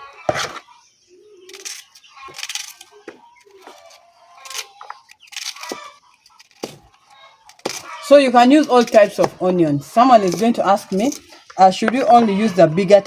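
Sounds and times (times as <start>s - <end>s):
onions crackling and crunching: 1.4s - 13.0s.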